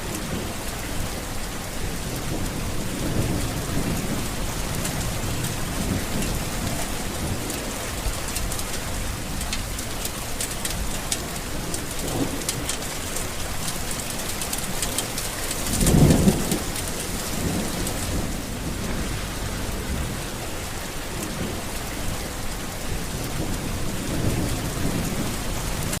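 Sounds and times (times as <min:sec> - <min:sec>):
heavy rain pattering: 0:00.0 - 0:26.0
thunder rumbling: 0:00.0 - 0:26.0.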